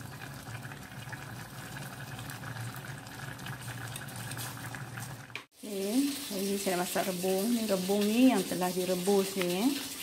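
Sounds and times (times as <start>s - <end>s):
curry bubbling: 0.0s - 10.0s.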